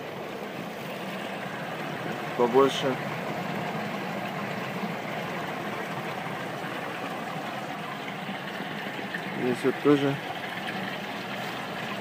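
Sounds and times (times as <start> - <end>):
bubbling aerated fish tank: 0.0 - 12.0.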